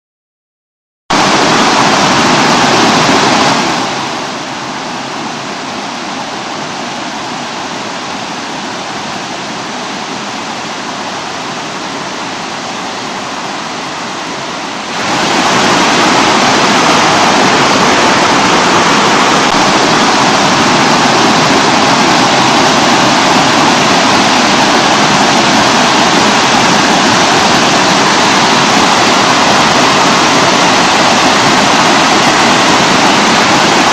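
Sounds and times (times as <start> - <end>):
water cascading over rocks: 1.1 - 33.9.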